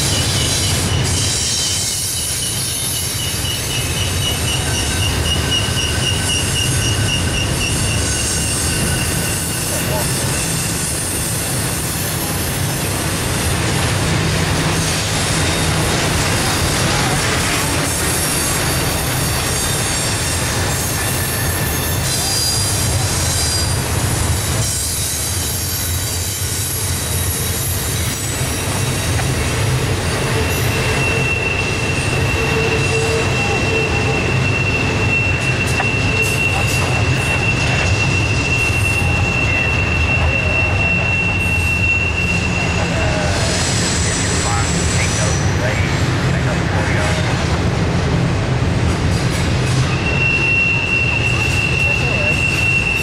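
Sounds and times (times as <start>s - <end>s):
wheel squeal against rail: 0.0s - 45.9s, 49.1s - 53.0s
steel wheels rumbling on rails: 0.0s - 53.0s.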